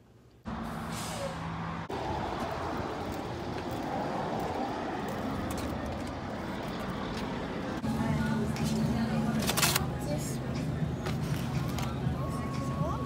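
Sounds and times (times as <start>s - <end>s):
passing cars: 0.4s - 13.0s.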